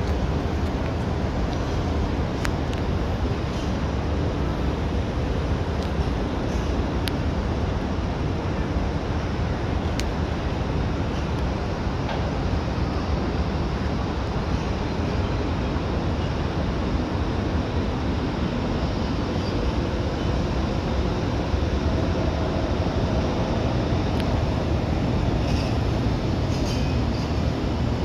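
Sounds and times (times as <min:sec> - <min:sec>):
city traffic rumble: 0:00.0 - 0:28.0
wind: 0:00.0 - 0:28.0.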